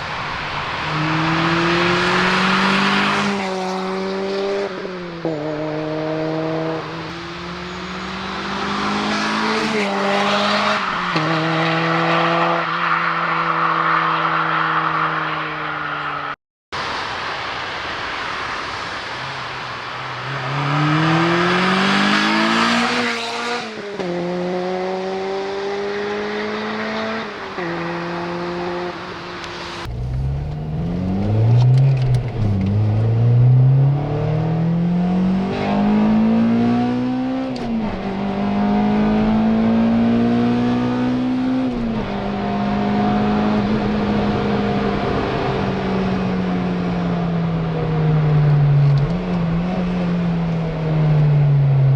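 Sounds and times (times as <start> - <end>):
car engine revving: 0.0 - 15.9, 20.2 - 51.9.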